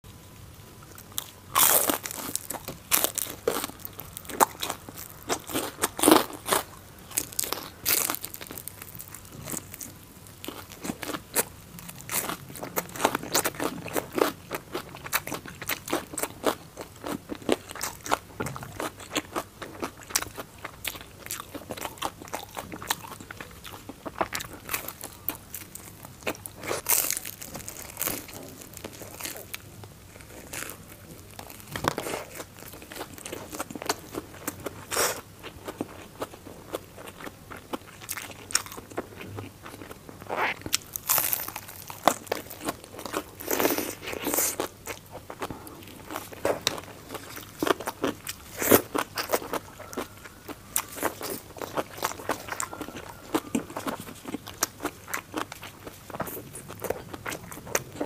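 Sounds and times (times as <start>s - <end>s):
crunching of crispy fried food: 0.8s - 58.0s.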